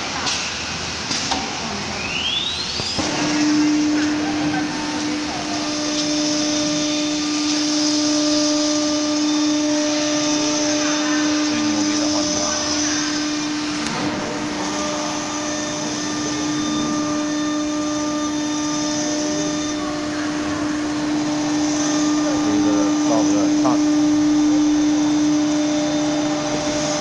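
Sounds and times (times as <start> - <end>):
router spindle high whine: 1.6 - 27.0.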